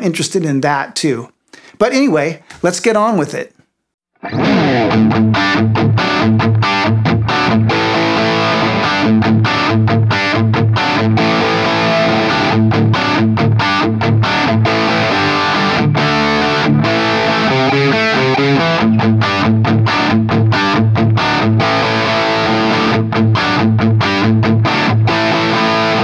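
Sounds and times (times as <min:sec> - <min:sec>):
distorted electric guitar: 0:04.2 - 0:26.0.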